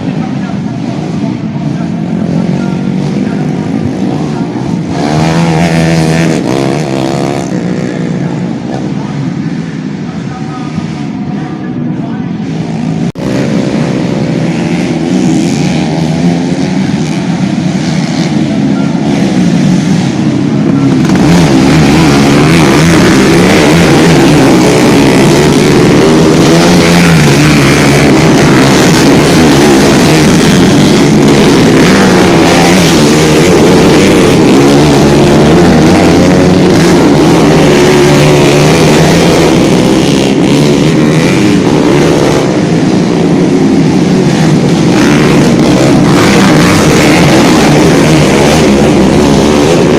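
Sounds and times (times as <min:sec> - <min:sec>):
motocross bike engines revving: 0:00.0 - 0:49.9.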